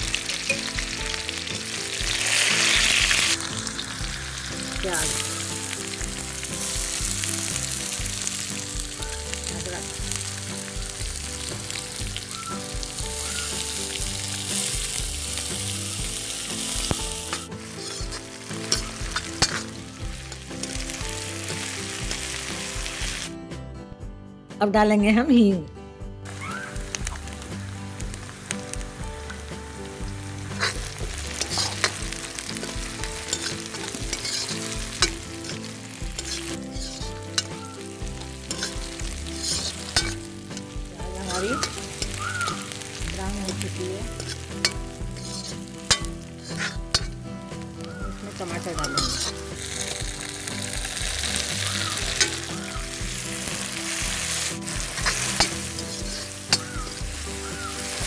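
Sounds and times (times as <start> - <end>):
onion frying in hot oil: 0.0 - 23.3, 26.3 - 58.0.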